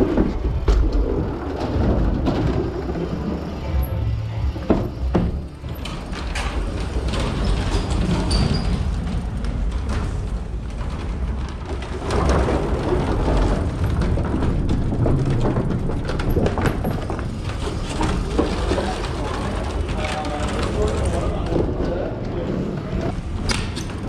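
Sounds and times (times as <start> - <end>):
bike knocks and rattles: 0.0 - 3.6, 4.4 - 24.0
bike tyre rolling noise: 0.0 - 24.0.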